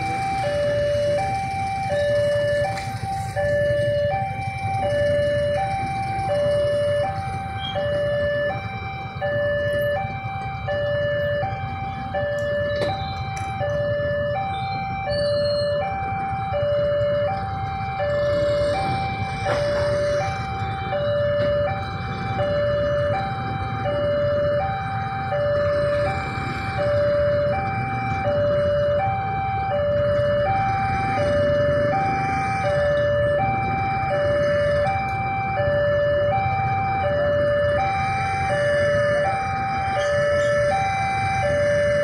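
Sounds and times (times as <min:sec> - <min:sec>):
idling engines rumble: 0:00.0 - 0:42.0
level crossing two-tone alarm: 0:00.0 - 0:42.0.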